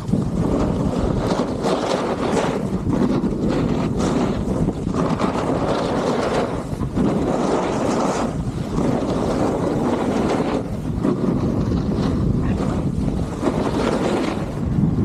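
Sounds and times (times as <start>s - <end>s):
snowboard sliding over snow: 0.0s - 15.0s
wind rushing over microphone: 0.0s - 15.0s.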